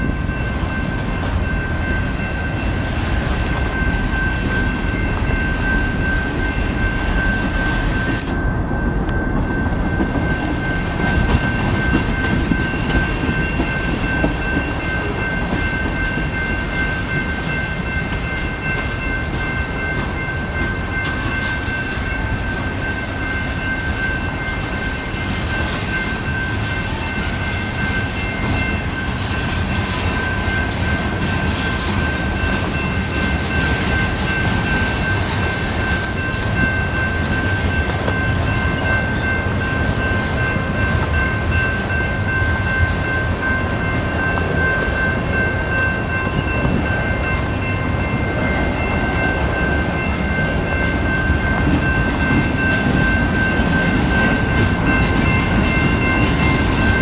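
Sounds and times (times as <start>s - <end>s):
high-pitched ringing tone: 0.0s - 57.0s
train wheels rumbling on rail: 0.0s - 57.0s.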